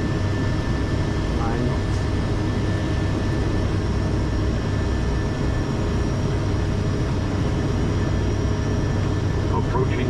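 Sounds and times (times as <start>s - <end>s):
turboprop engine drone: 0.0s - 10.0s.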